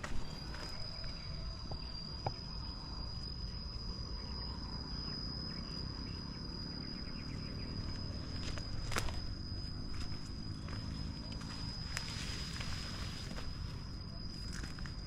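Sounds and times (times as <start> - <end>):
cricket trilling: 0.0 - 15.0.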